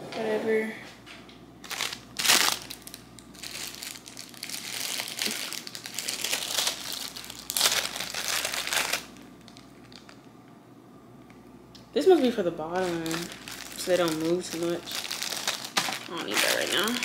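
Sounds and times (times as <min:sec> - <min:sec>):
plastic bag crinkling: 0:01.6 - 0:10.3, 0:12.0 - 0:17.0.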